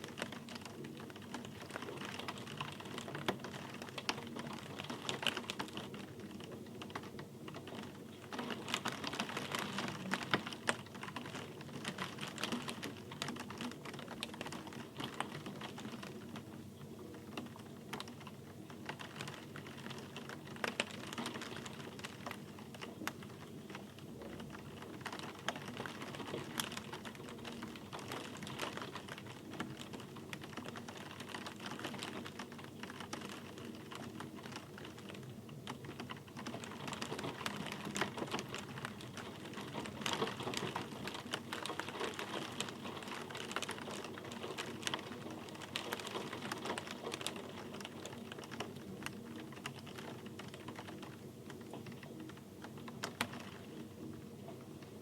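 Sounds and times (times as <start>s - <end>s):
rain falling: 0.0s - 55.0s
raindrops ticking: 0.0s - 55.0s.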